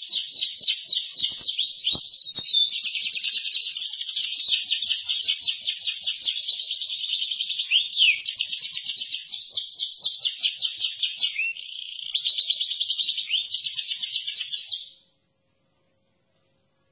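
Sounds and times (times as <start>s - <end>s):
finch singing rolling trills: 0.0s - 14.8s.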